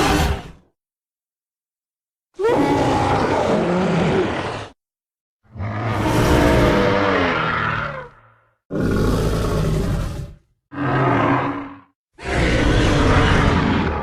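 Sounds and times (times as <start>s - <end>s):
dinosaur roars: 0.0s - 0.7s, 2.4s - 4.8s, 5.5s - 14.0s.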